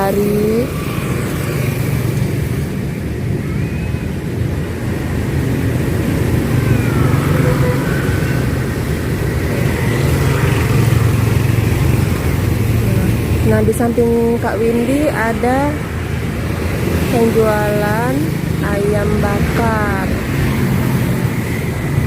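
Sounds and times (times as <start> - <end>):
passing motorbikes and cars: 0.0 - 22.0.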